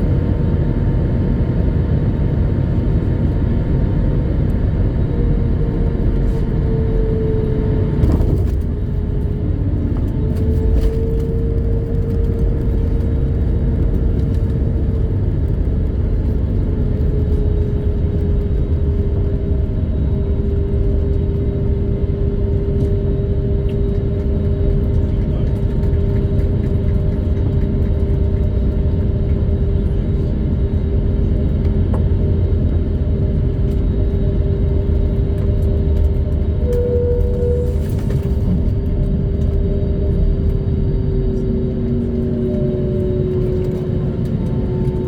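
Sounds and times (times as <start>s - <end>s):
airplane cabin engine rumble: 0.0s - 45.0s.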